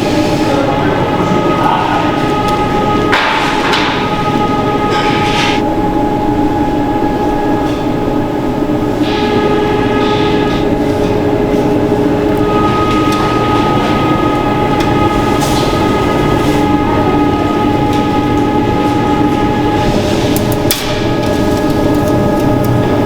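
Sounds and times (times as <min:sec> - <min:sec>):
machinery droning: 0:00.0 - 0:23.0.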